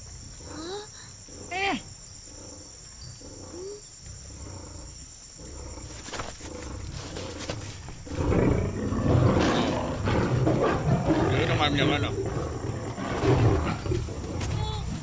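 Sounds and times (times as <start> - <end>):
leopards growling: 0.0 - 15.0.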